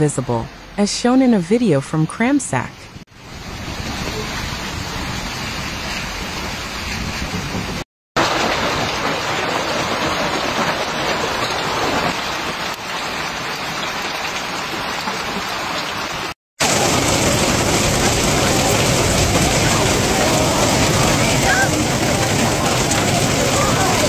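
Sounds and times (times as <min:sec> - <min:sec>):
heavy rain and hail pelting: 0:03.2 - 0:24.0.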